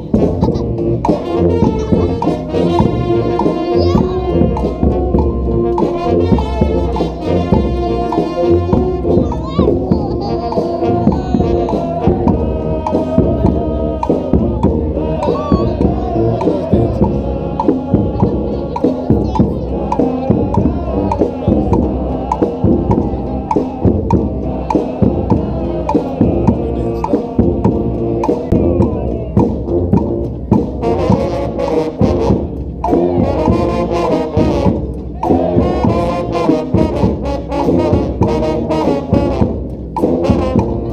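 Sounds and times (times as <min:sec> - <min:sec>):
brass horns playing melody: 0:00.0 - 0:40.9
steady drumbeat: 0:00.0 - 0:40.9.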